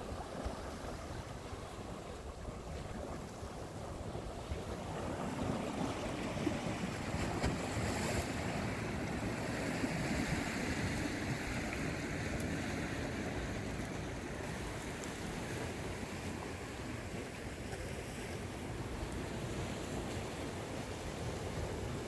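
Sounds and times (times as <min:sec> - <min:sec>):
waves washing against rocks: 0:00.0 - 0:22.0.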